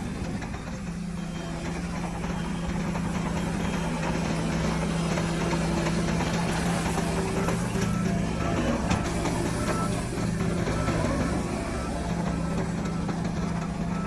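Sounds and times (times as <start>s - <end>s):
heavy diesel machinery engine: 0.0s - 14.0s.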